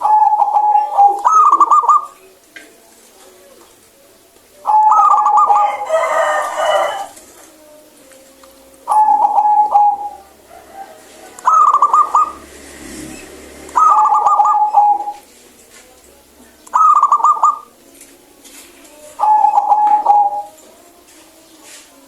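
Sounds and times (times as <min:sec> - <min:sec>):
dove cooing: 0:00.0 - 0:21.4.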